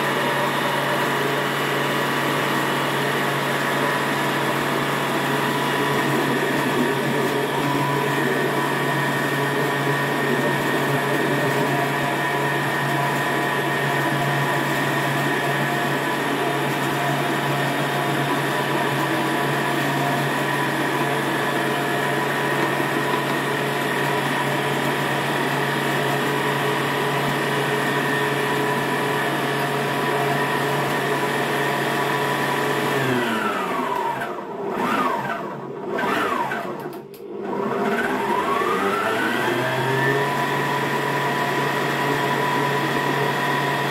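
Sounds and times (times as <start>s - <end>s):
blender motor running: 0.0s - 43.9s.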